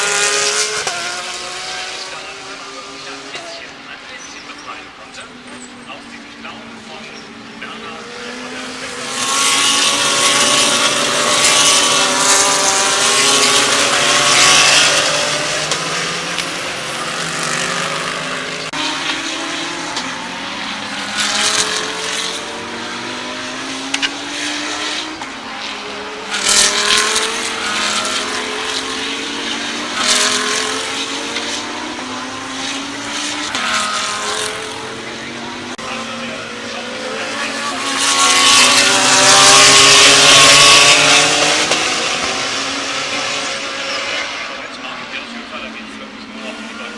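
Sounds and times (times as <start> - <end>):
race cars passing: 0.0 - 46.9.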